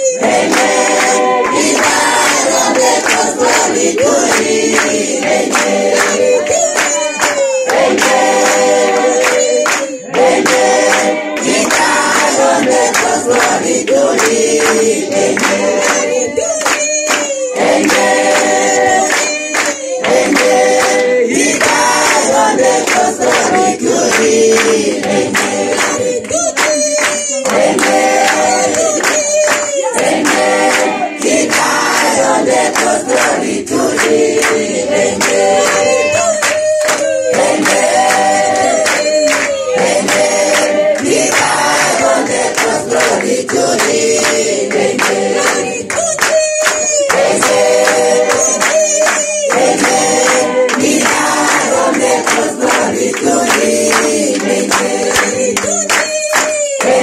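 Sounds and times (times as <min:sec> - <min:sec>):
congregation singing gospel: 0:00.0 - 0:57.0
people clapping in time: 0:00.0 - 0:57.0.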